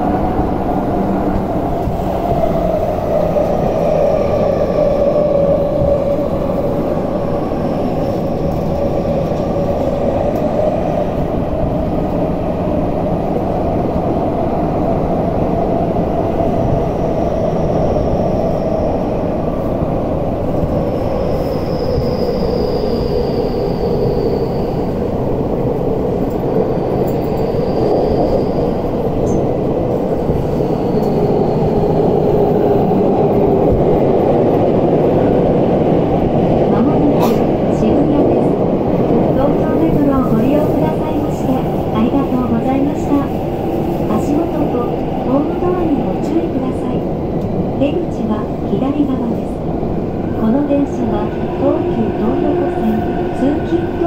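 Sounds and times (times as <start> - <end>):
train rumble in tunnel: 0.0 - 54.0.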